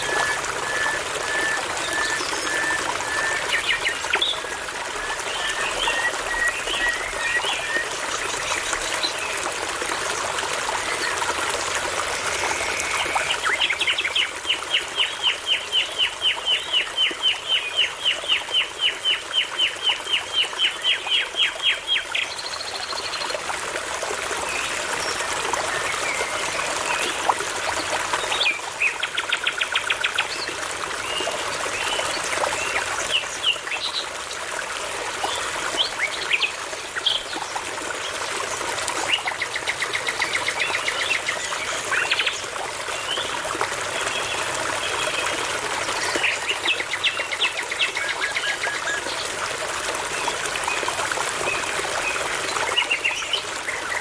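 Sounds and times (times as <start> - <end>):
babbling brook: 0.0 - 54.0.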